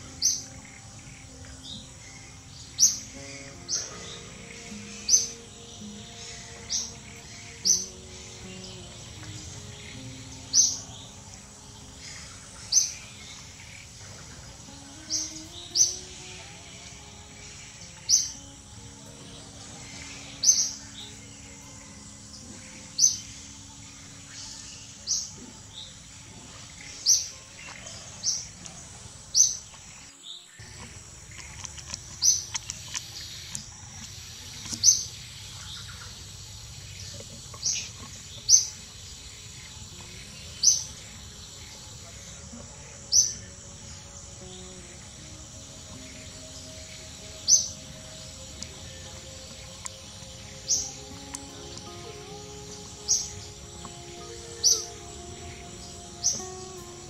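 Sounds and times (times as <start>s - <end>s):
steady background hiss: 0.0s - 31.3s, 32.2s - 57.0s.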